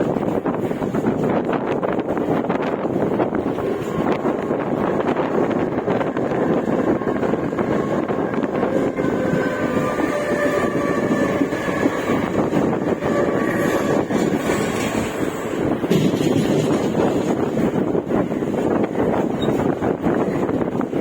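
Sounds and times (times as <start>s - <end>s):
electric train rolling rumble: 0.0s - 21.0s.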